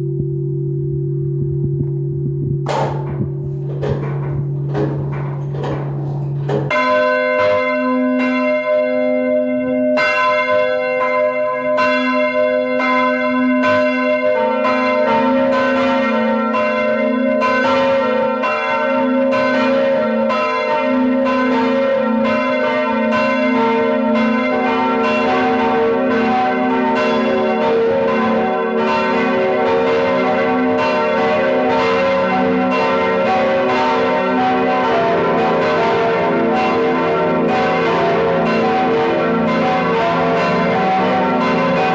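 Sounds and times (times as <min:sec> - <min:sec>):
church bells ringing: 0:02.7 - 0:41.9.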